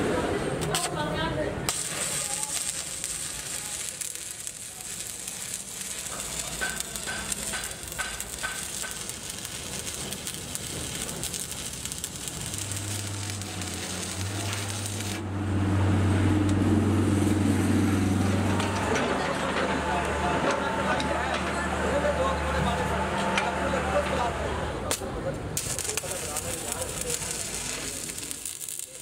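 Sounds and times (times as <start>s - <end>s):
welding arc crackling: 0.6s - 20.3s, 23.9s - 29.0s.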